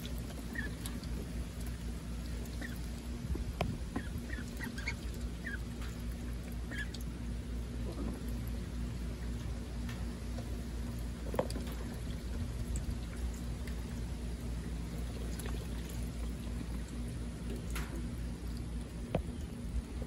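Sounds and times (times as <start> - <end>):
duck dabbling in water: 0.0 - 19.4
water splashes and drips: 0.0 - 20.0.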